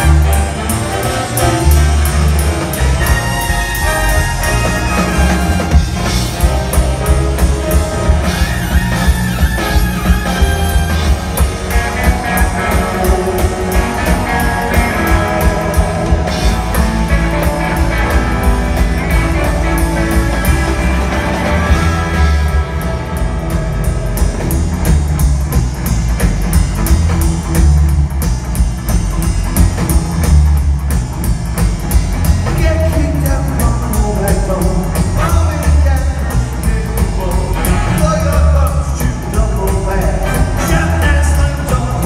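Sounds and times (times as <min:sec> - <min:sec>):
electric guitar: 0:00.0 - 0:42.0
instrumental rockabilly band: 0:00.0 - 0:42.0
steady drum beat: 0:00.0 - 0:42.0.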